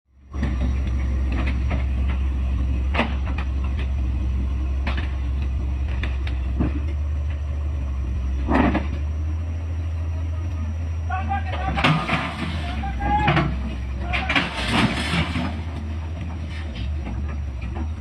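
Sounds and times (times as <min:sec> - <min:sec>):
diesel engine rumbling: 0:00.1 - 0:18.0
engine knocks and clanks: 0:00.1 - 0:18.0.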